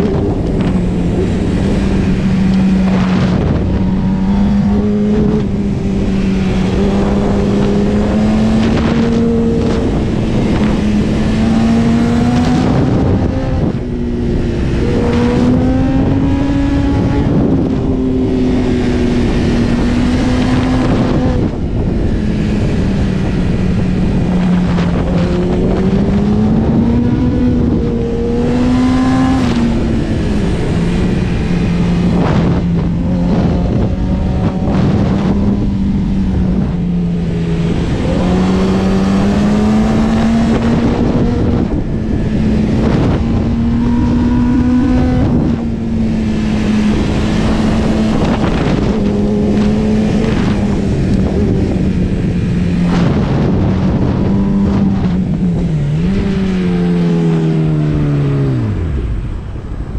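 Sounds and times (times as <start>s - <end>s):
motorcycle engine revving: 0.0s - 59.9s
wind rushing past: 0.0s - 59.9s.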